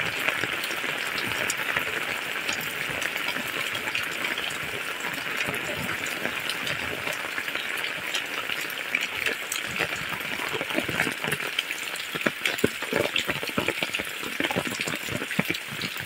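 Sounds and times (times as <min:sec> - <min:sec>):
heavy rain on roofs: 0:00.0 - 0:16.0
large raindrops splatting: 0:00.0 - 0:16.0.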